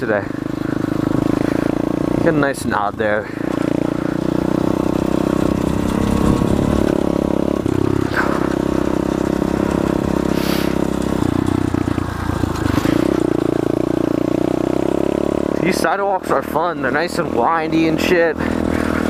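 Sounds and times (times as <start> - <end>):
motorbike engine running: 0.0 - 19.0.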